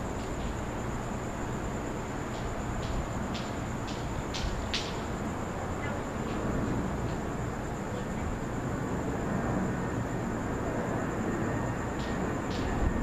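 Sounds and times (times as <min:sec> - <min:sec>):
low rumble of night noise: 0:00.0 - 0:13.0.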